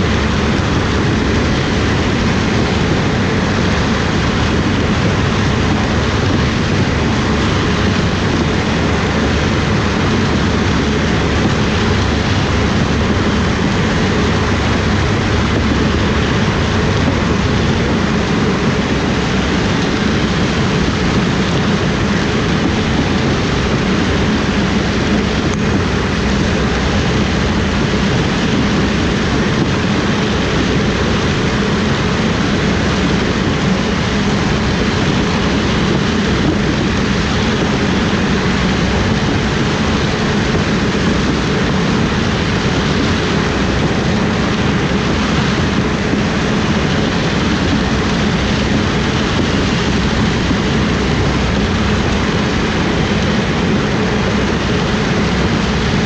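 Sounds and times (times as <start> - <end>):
harvest machinery drone: 0.0 - 56.0.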